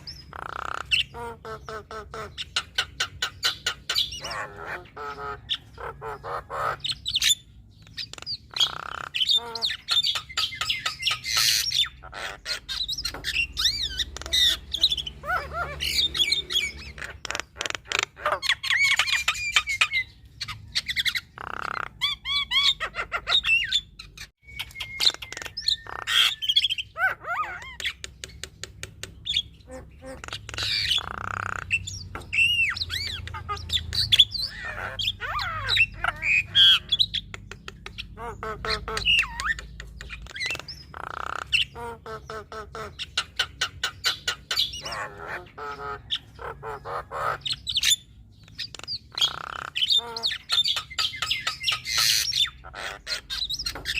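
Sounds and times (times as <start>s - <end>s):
harsh rasping squawks: 0.0s - 28.0s, 29.2s - 53.9s
bird chattering song: 0.0s - 53.9s.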